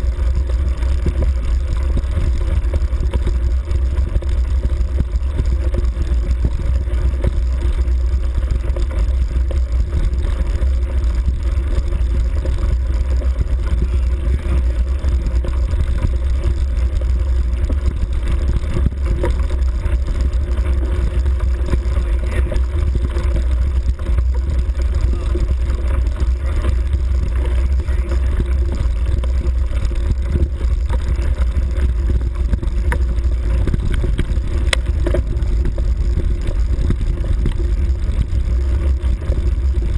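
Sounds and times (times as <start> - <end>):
off-road motorbike engine running: 0.0 - 39.9
wind rumble on microphone: 0.0 - 39.9.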